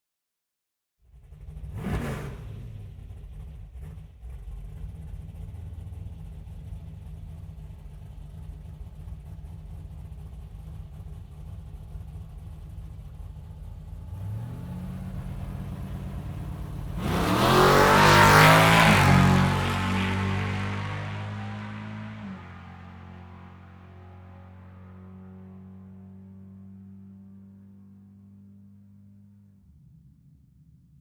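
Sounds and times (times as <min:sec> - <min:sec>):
car engine idling and revving: 0:01.0 - 0:30.7
car accelerating: 0:01.2 - 0:29.1.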